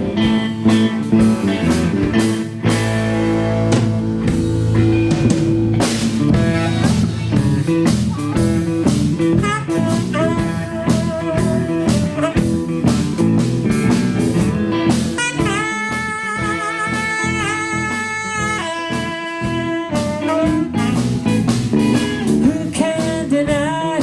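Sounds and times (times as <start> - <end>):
bass guitar: 0.0 - 24.0
drum kit: 0.0 - 24.0
lead guitar: 0.0 - 24.0.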